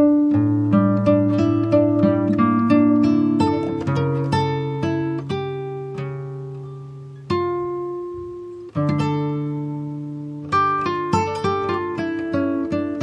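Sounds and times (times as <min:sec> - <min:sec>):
acoustic guitar picking slow notes: 0:00.0 - 0:13.0.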